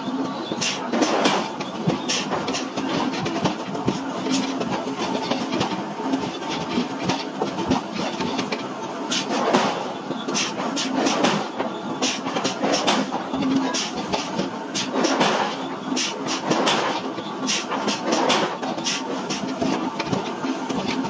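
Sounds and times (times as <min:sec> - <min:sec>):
heavy machinery clattering: 0:00.0 - 0:21.0.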